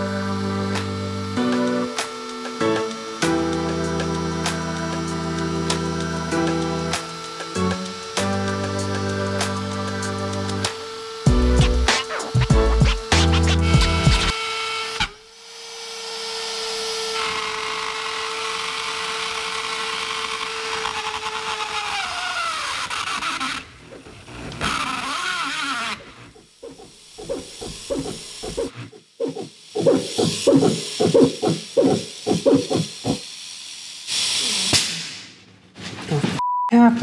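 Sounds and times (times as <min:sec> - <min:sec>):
router spindle whining: 0:00.0 - 0:33.3
end mill cutting aluminum: 0:00.0 - 0:35.3.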